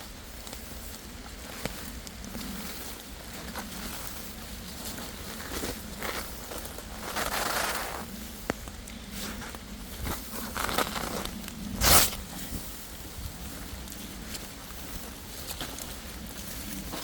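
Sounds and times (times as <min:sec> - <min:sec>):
footsteps crunching through leaves: 0:00.1 - 0:17.0.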